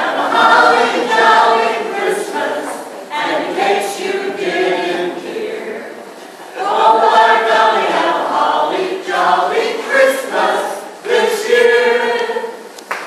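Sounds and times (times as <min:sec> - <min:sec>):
group singing a cappella: 0:00.0 - 0:12.7.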